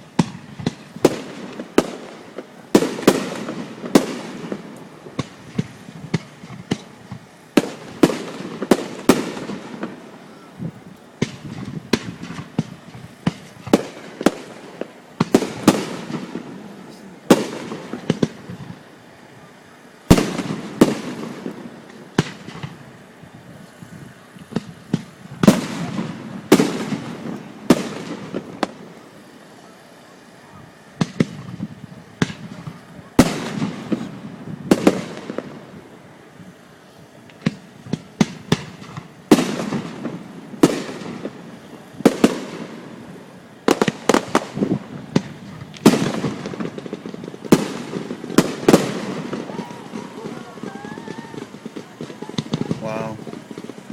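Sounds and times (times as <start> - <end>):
fireworks rumble and crackle: 0.0 - 53.9.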